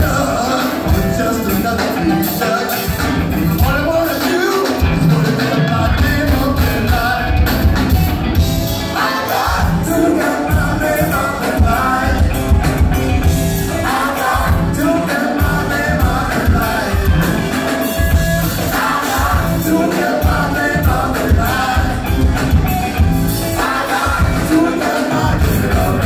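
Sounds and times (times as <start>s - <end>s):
funk band playing: 0.0s - 26.0s.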